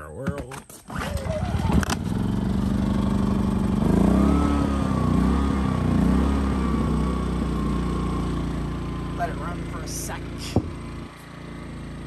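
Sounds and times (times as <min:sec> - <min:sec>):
generator engine running: 0:00.8 - 0:12.0.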